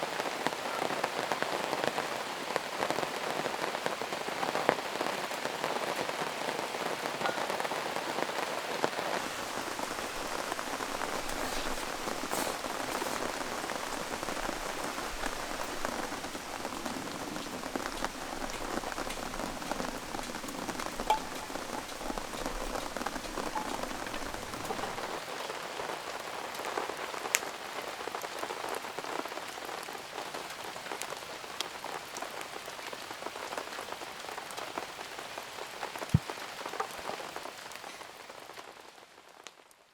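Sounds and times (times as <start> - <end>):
heavy rain patter: 0.0 - 39.3.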